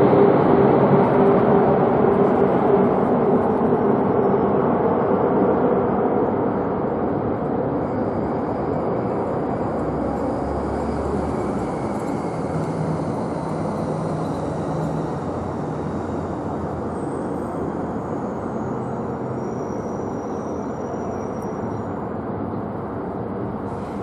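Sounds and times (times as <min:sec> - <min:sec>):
jetliner flying low overhead: 0:00.0 - 0:24.0.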